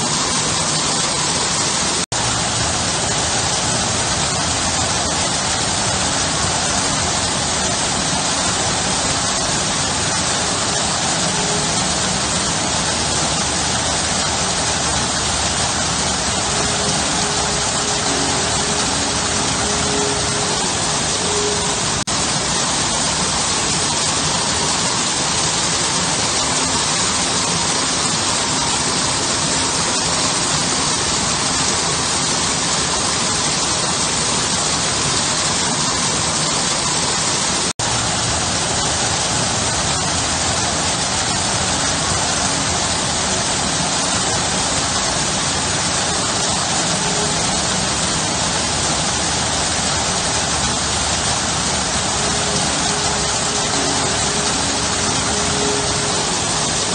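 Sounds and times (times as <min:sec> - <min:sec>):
waterfall splashing into pool: 0:00.0 - 0:56.9.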